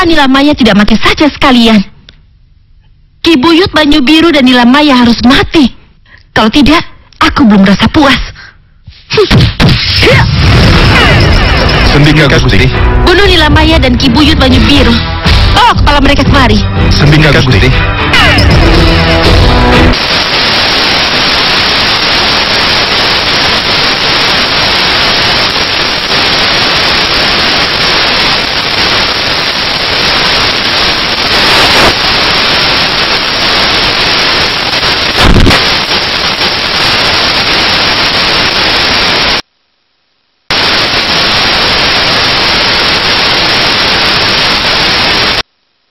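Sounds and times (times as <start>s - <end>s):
static crackle: 0.0s - 45.9s
static hiss: 7.3s - 45.9s.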